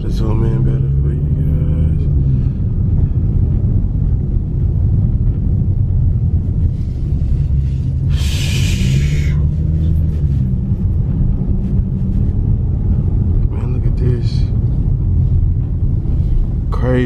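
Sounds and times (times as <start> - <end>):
road and engine noise in car: 0.0 - 17.0.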